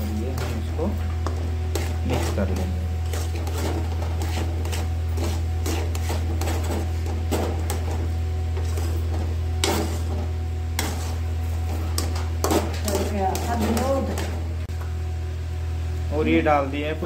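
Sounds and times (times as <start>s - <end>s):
steady low hum: 0.0s - 17.0s
metal spatula scraping steel pan: 0.1s - 14.4s.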